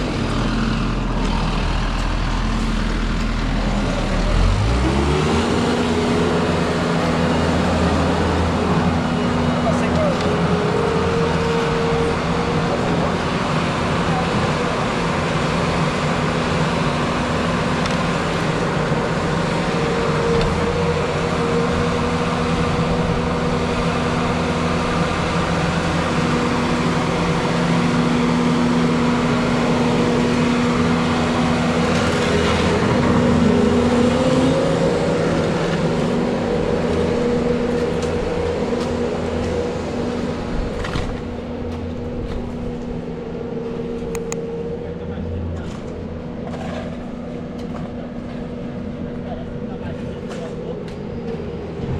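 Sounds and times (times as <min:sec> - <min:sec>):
skid-steer loader diesel engine: 0:00.0 - 0:51.9.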